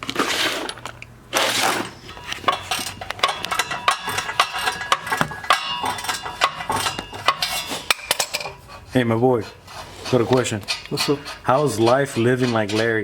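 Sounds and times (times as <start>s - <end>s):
metal tools clinking in toolbox: 0.2s - 8.9s, 9.8s - 13.0s.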